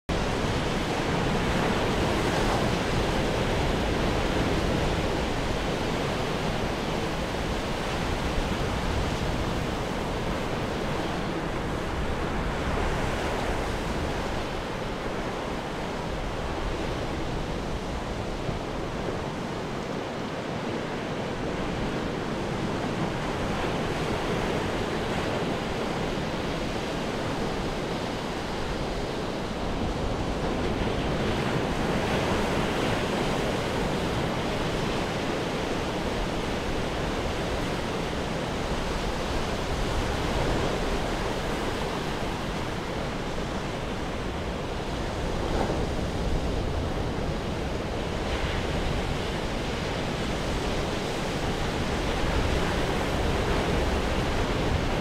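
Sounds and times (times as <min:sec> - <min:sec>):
ocean waves breaking on rocks: 0:00.1 - 0:55.0.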